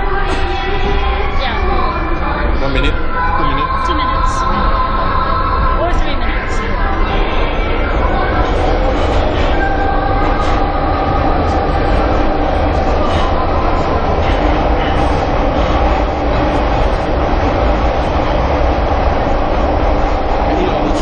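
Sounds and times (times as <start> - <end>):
faint whine: 0.0 - 21.0
subway train rumbling: 0.0 - 21.0.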